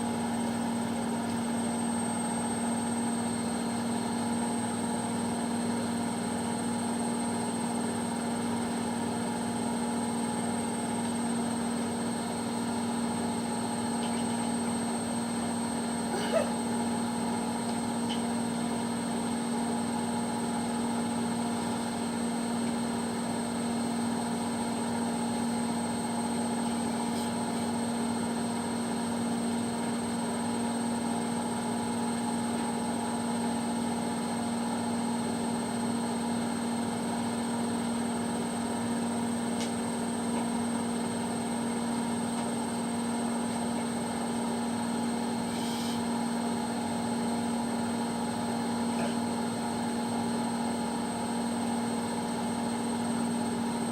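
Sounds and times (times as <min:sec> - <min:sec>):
washing machine spinning: 0:00.0 - 0:45.4.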